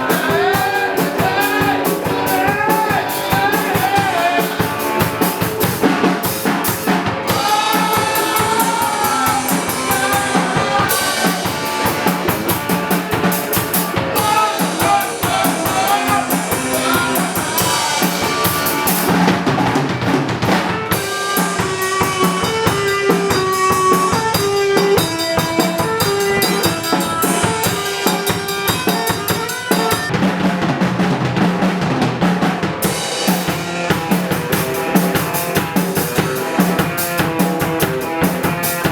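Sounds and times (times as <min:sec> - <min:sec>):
drum kit steady beat: 0:00.0 - 0:38.9
rock music: 0:00.0 - 0:38.9.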